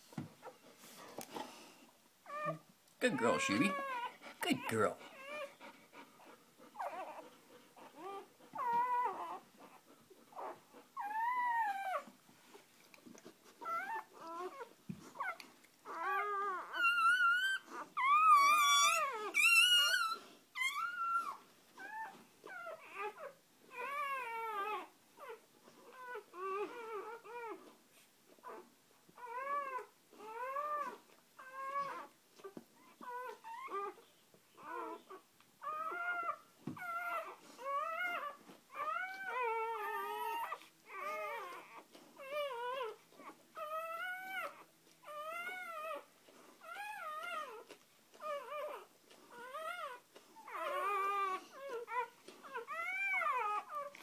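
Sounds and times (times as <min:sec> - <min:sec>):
puppies squealing and whimpering: 0:02.3 - 0:12.1, 0:13.6 - 0:27.6, 0:29.2 - 0:54.0.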